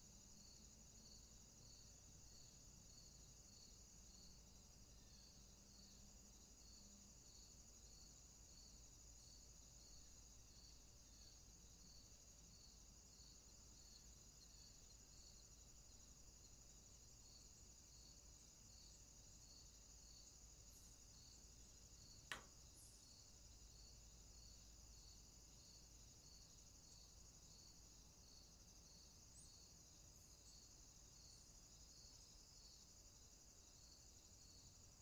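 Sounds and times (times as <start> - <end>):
pulsing insect chirp: 0.0 - 35.0
soft background hiss: 0.0 - 35.0.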